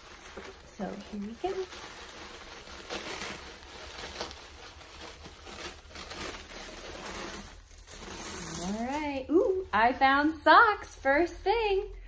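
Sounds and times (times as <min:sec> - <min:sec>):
tissue paper rustling: 0:00.0 - 0:11.9.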